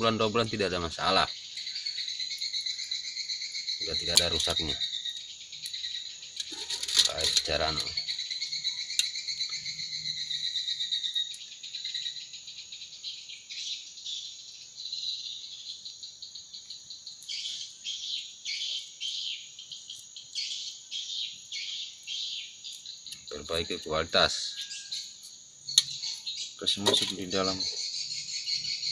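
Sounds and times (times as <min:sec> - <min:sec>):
insects chirping: 0:00.0 - 0:28.9.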